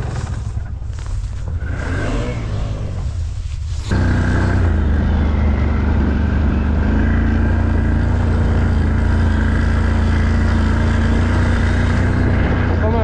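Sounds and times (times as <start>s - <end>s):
engine running under throttle: 0.0s - 13.0s.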